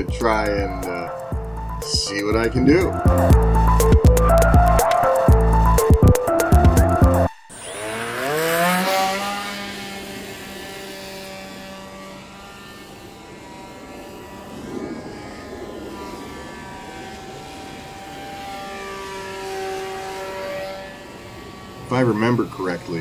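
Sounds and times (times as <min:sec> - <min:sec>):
model plane motor buzzing: 0:00.0 - 0:23.0.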